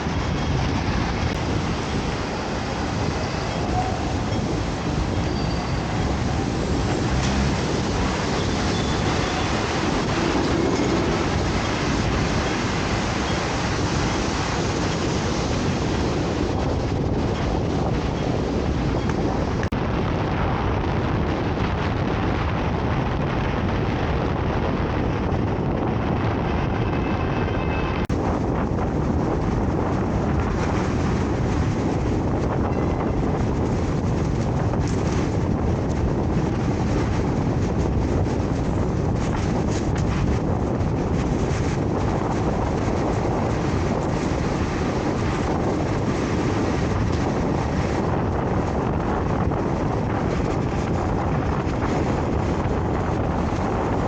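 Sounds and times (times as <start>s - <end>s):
strong wind on microphone: 0.0s - 54.0s.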